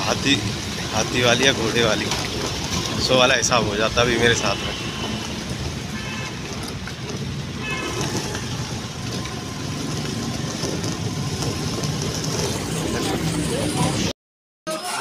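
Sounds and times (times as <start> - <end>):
road traffic rumble: 0.0 - 14.1.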